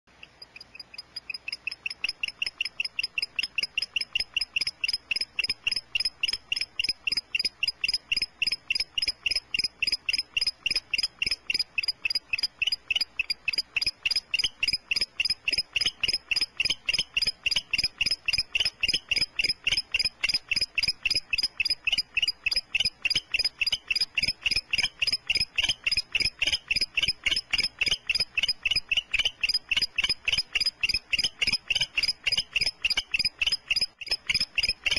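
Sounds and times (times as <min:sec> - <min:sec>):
animal chirping call: 0:00.1 - 0:34.9.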